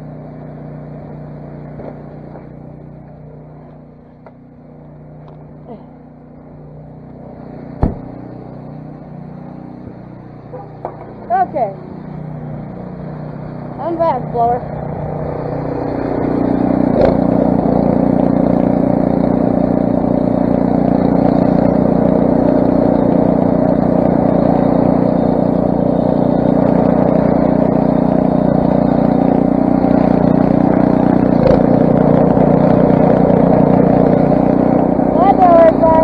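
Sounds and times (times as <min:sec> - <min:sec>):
snowblower engine running: 0:00.0 - 0:36.0.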